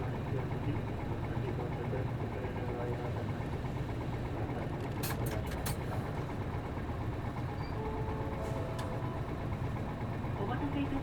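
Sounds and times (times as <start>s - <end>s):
bus diesel engine humming: 0.0s - 11.0s.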